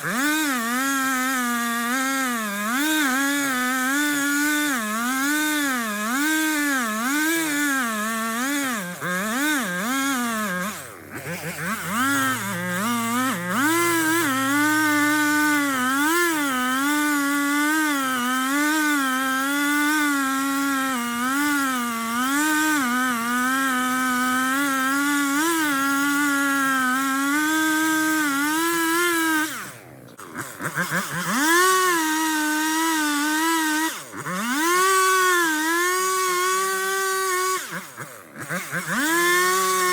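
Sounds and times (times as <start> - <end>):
chainsaw cutting through trunk: 0.0 - 39.9.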